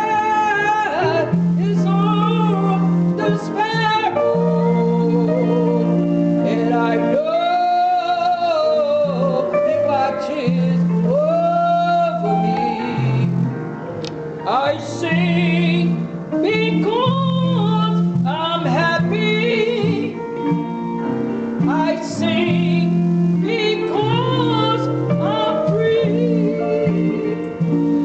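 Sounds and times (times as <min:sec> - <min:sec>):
woman singing with vibrato: 0:00.0 - 0:13.6, 0:14.4 - 0:20.8, 0:21.6 - 0:28.0
low instrumental accompaniment: 0:00.0 - 0:28.0.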